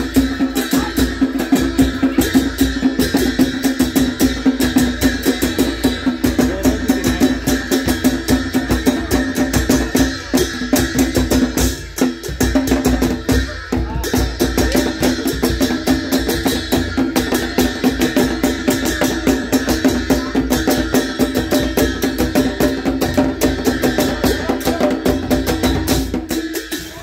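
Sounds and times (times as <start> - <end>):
barrel drum beating: 0.0 - 27.0.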